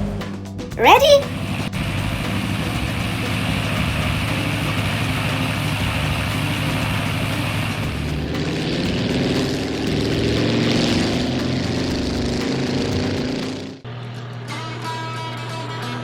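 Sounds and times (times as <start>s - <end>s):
cartoon vehicle engine: 0.8s - 14.9s.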